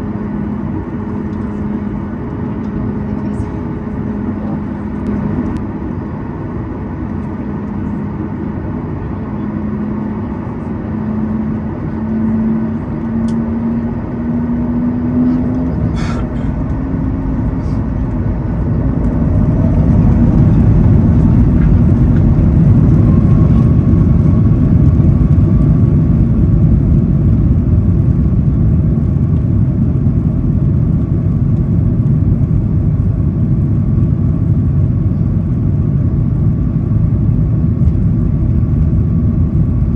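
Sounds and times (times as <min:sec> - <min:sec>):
takeoff roll rumble: 0:00.0 - 0:39.9.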